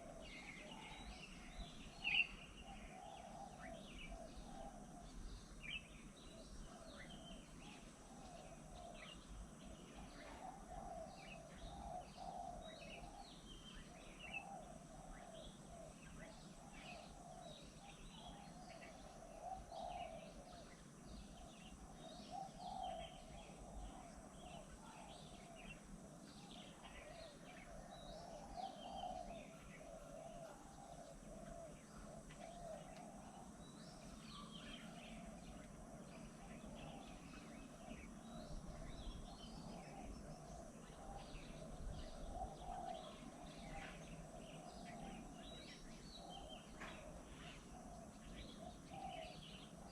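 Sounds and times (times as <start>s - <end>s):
birds chirping and calling: 0.0s - 49.9s
low steady background noise: 0.0s - 49.9s.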